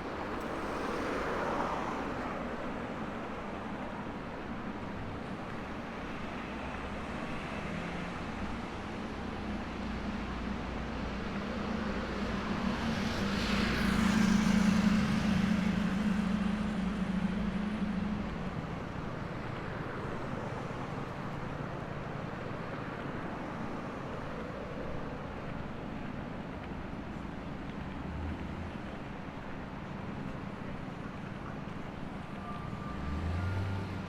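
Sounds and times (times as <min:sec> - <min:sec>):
city street traffic: 0:00.0 - 0:34.0.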